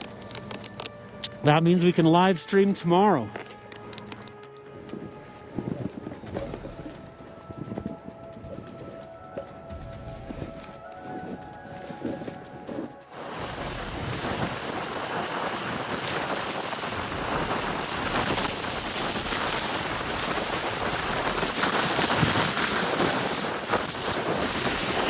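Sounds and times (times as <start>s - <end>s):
wind and snow rushing hiss: 3.6s - 25.0s.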